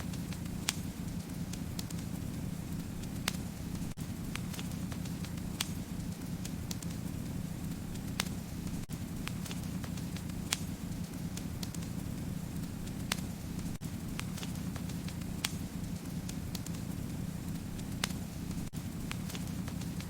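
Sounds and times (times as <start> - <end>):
fire crackling and popping: 0.0 - 20.0
low rush of flames: 0.0 - 20.0.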